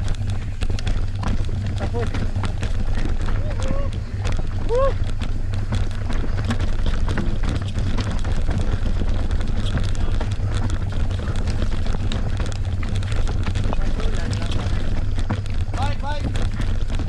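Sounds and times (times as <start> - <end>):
mountain bike rumbling and rattling: 0.0 - 17.0.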